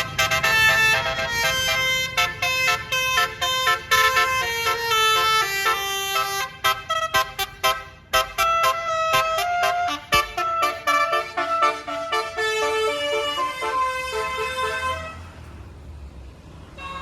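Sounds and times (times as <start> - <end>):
bus horn melody: 0.0 - 15.3.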